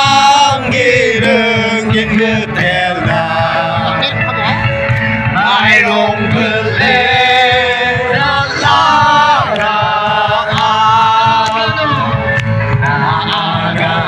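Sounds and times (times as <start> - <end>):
two men singing: 0.0 - 14.0.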